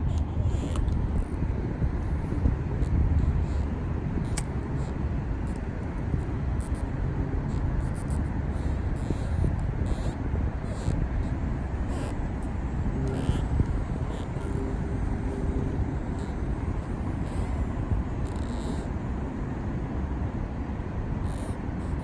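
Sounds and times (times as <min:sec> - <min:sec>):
low rumble of road traffic: 0:00.0 - 0:22.0.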